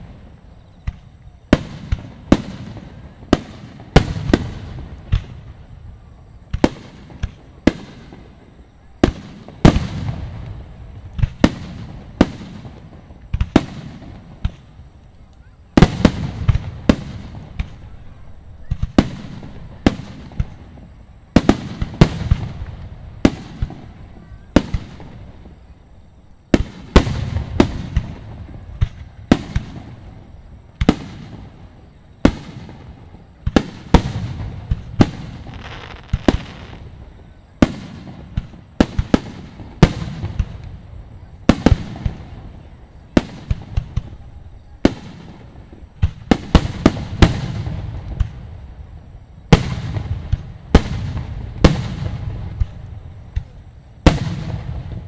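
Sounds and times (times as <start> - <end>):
fireworks bursting with bangs: 0.0 - 55.0.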